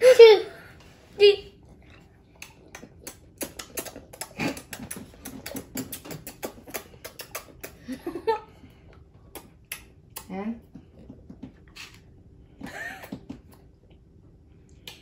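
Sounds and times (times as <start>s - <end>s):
children chewing crunchy gum: 0.6s - 14.1s.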